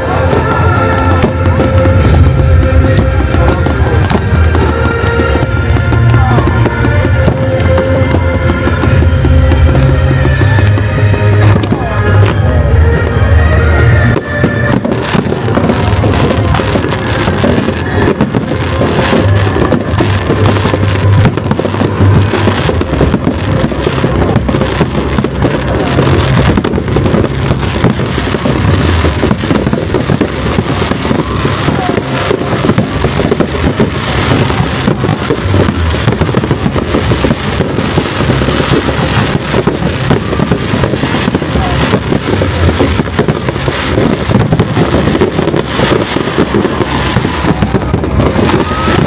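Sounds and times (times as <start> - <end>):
fireworks booms: 0.0 - 49.0
fireworks crackling: 0.0 - 49.0
music playing: 0.0 - 49.0.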